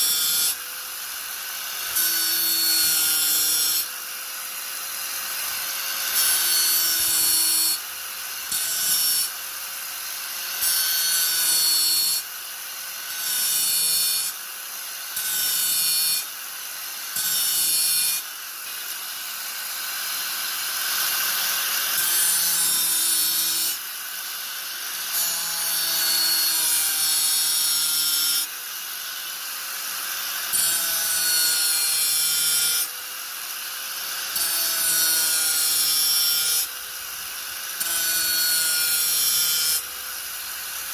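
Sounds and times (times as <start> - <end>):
angle grinder grinding: 0.0 - 40.9.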